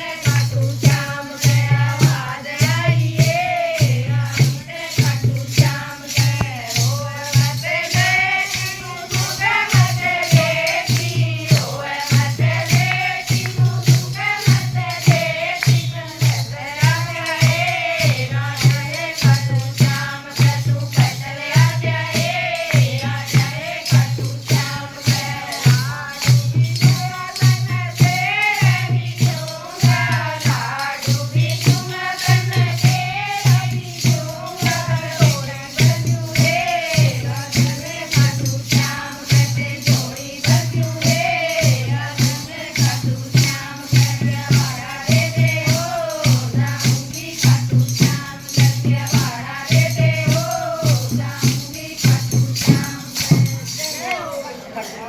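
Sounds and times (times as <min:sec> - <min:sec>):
person singing devotional song: 0:00.0 - 0:55.0
rattle percussion beat: 0:00.0 - 0:55.0.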